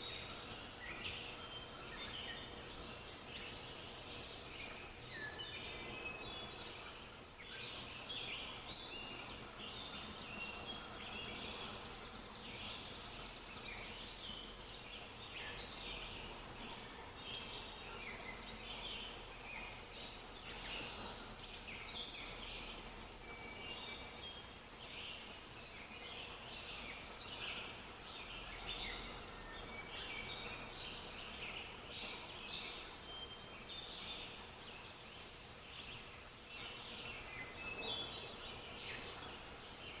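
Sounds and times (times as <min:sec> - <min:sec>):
small birds chirping and singing: 0:00.0 - 0:40.0.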